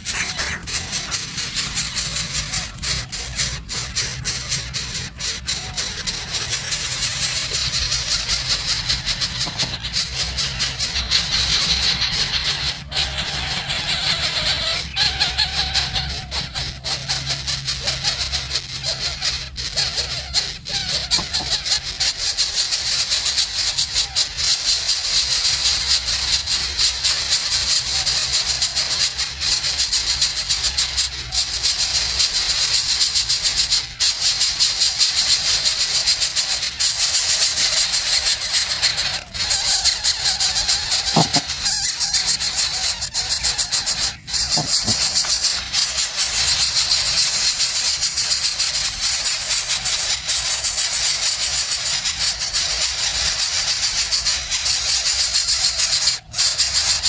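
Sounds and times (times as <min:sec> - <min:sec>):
nestling birds chattering: 0:00.0 - 0:57.0.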